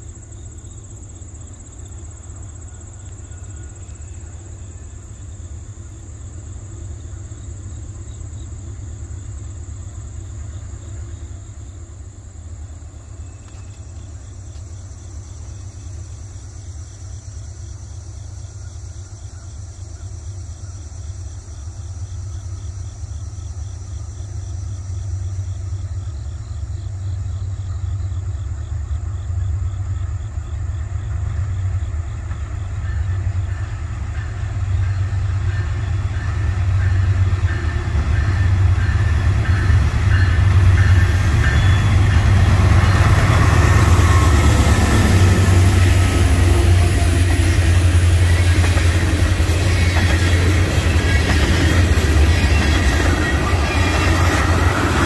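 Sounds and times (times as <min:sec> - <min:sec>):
freight train diesel rumble: 0:00.0 - 0:55.0.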